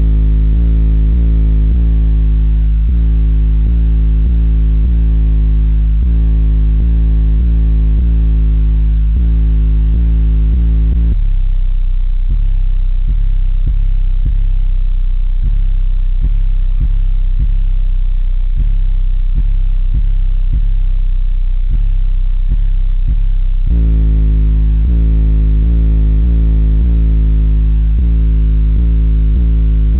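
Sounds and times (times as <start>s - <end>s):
loud bass-heavy rap from subwoofers: 0.0s - 29.9s.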